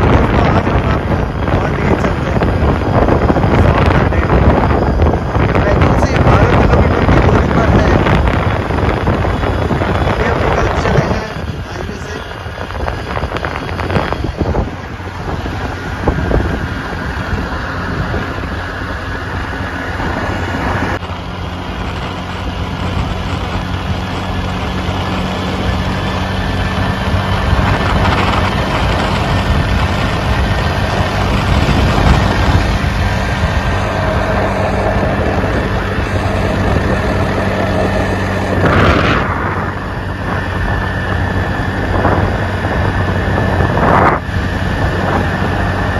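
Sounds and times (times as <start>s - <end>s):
vehicle engine hum: 0.0s - 45.9s
wind rushing over microphone: 0.0s - 45.9s.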